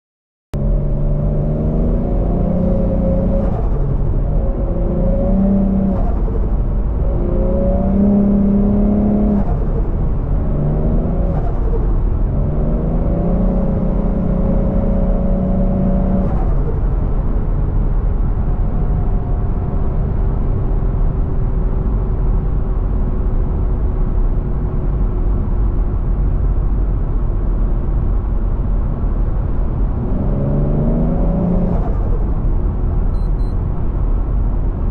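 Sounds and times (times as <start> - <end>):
car engine accelerating: 0.6 - 27.1, 28.0 - 34.9.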